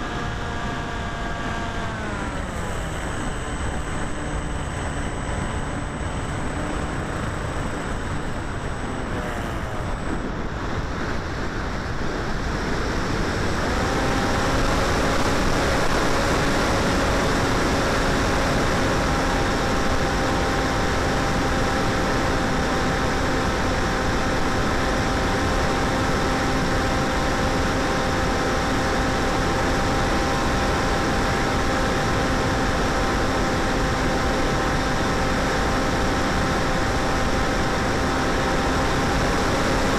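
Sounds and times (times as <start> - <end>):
electric motor and propeller whining: 0.0 - 39.9
wind rushing over microphone: 0.0 - 39.9.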